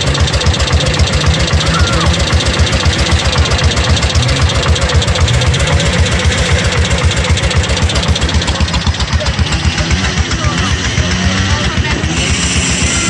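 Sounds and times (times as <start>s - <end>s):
snowmobile engine idling: 0.0s - 13.0s.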